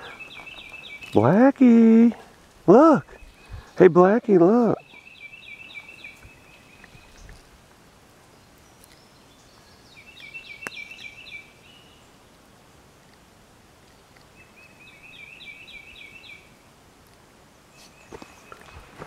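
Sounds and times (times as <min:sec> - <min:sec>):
songbird singing: 0:00.0 - 0:16.7, 0:17.5 - 0:19.0.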